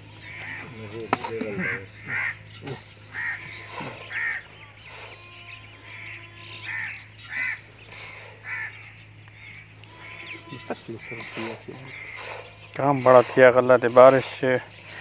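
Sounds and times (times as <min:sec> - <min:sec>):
crows cawing: 0:00.0 - 0:15.0
steady low hum: 0:00.0 - 0:15.0.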